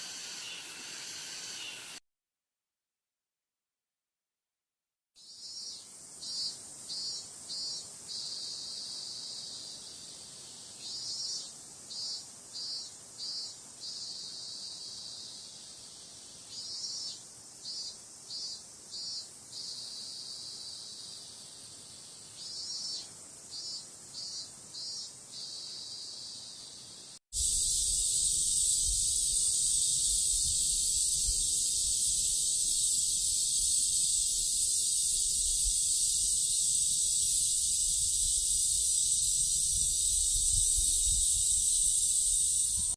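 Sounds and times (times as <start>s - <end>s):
cicadas singing: 0.0s - 2.0s, 5.2s - 42.9s.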